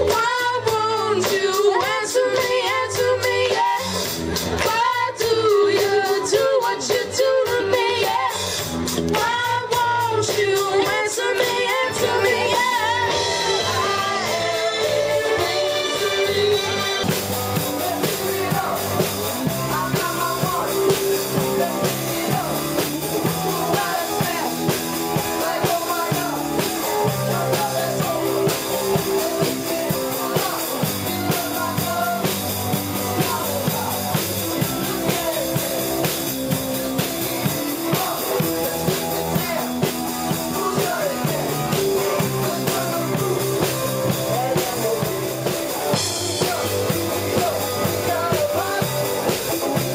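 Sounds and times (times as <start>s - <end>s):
bass and electric guitar: 0.0s - 49.9s
drum kit beat: 0.0s - 49.9s
person singing: 0.0s - 49.9s.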